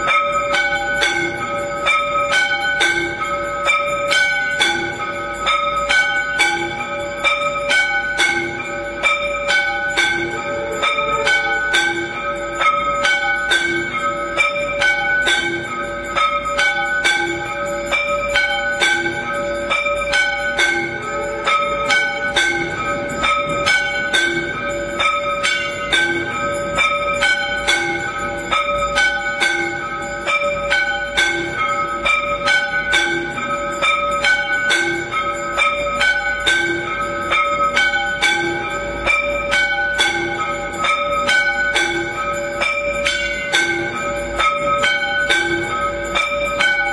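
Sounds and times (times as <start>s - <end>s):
temple bells ringing rapidly: 0.0s - 46.9s.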